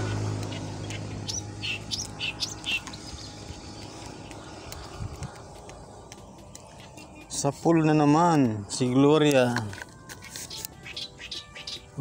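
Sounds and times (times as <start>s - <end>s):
bird chirping: 0.0s - 8.9s, 10.2s - 12.0s
faint outdoor background: 0.0s - 12.0s.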